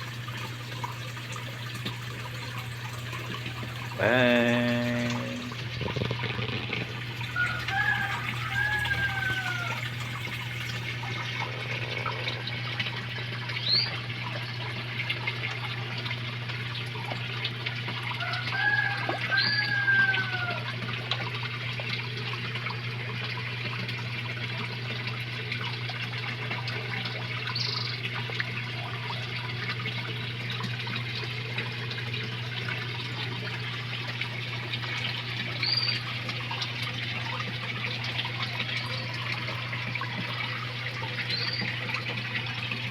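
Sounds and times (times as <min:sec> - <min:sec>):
water rushing into pond: 0:00.0 - 0:42.9.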